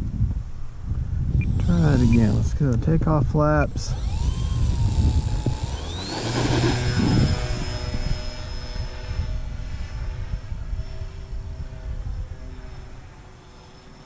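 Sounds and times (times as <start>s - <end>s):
model plane electric motors whining: 1.3s - 2.6s, 3.6s - 14.0s.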